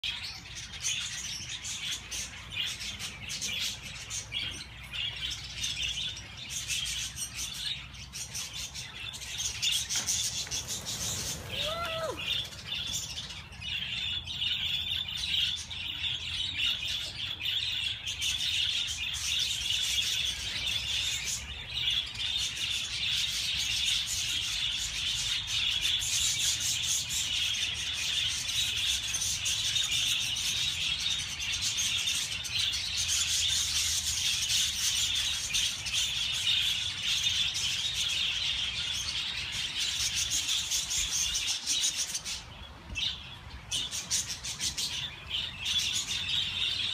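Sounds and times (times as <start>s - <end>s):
flock of budgies chattering: 0.0s - 46.9s.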